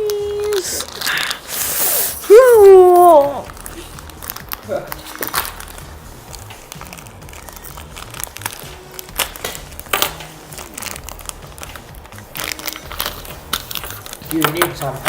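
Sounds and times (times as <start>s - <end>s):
faint music: 0.0s - 15.0s
plastic packaging crinkling: 0.0s - 15.0s.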